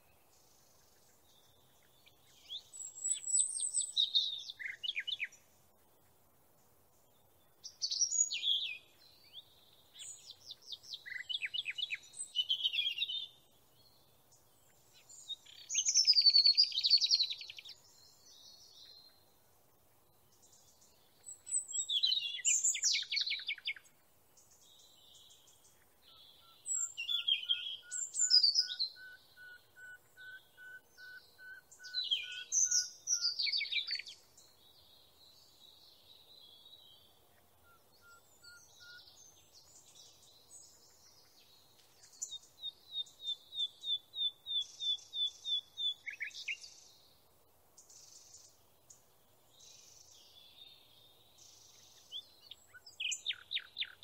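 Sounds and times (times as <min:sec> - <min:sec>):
songbird singing with trills: 0:00.0 - 0:05.6, 0:06.9 - 0:19.4, 0:20.0 - 0:54.0.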